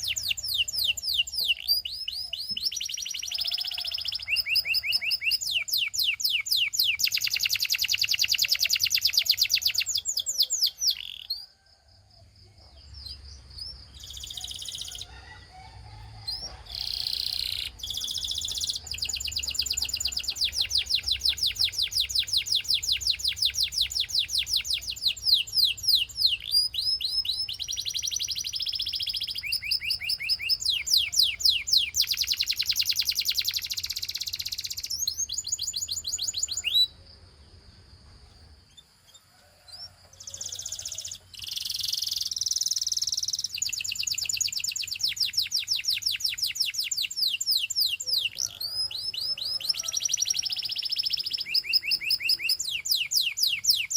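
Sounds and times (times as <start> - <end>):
canary singing trills: 0.0 - 11.7, 12.4 - 37.0, 38.4 - 53.9.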